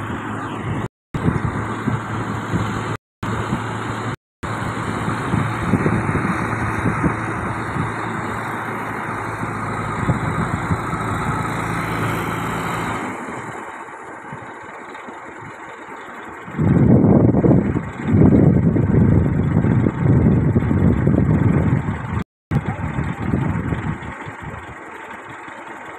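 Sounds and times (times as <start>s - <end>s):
crane diesel engine running: 0.0s - 25.9s.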